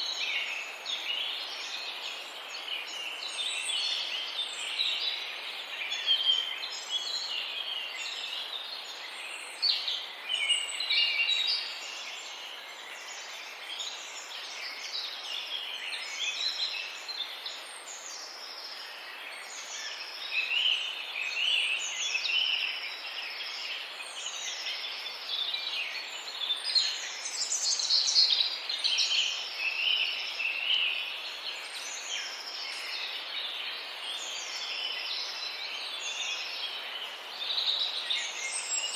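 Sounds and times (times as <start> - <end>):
outdoor background noise: 0.0 - 38.9.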